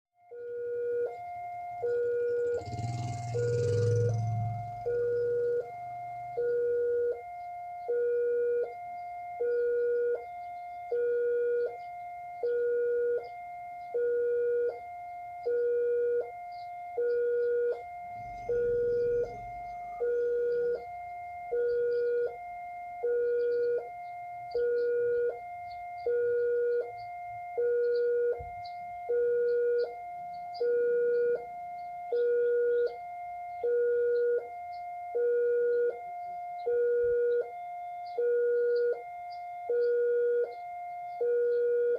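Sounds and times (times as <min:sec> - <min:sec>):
two-tone crossing alarm: 0:00.2 - 0:41.9.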